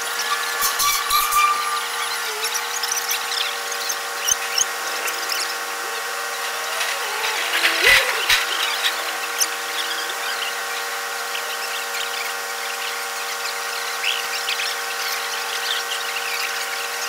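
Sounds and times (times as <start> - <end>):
crane machinery whining: 0.0 - 17.0.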